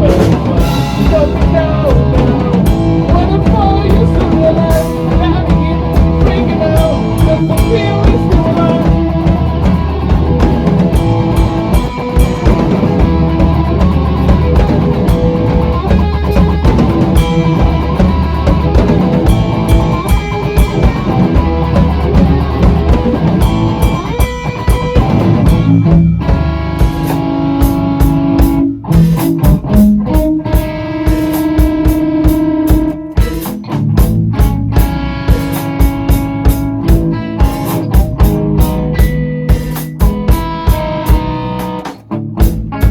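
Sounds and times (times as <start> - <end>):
rock band instrumental: 0.0 - 42.9.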